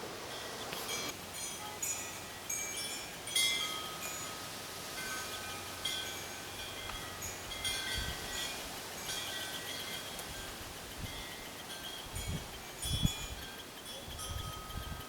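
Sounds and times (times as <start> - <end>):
wind chimes ringing: 0.3 - 15.0.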